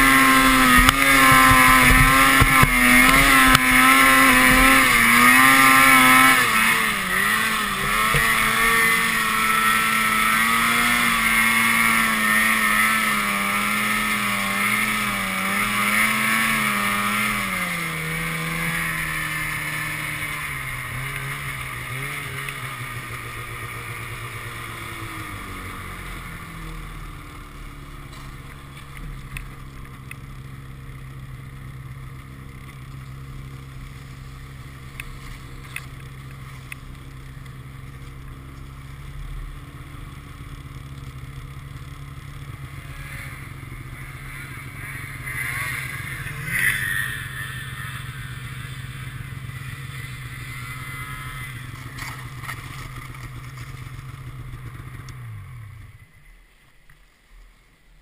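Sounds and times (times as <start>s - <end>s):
snowmobile engine running: 0.0s - 56.6s.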